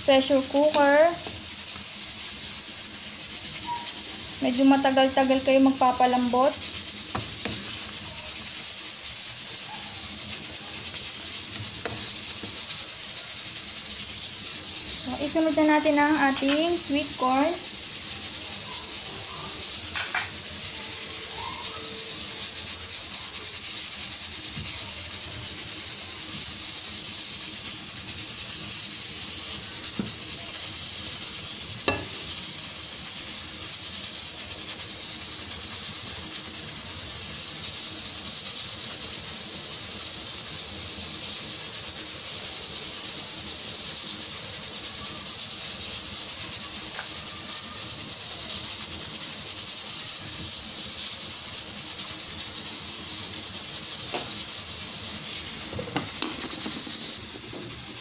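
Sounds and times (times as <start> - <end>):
pot of water boiling: 0.0 - 58.0
pressure cooker steam hissing: 0.0 - 58.0.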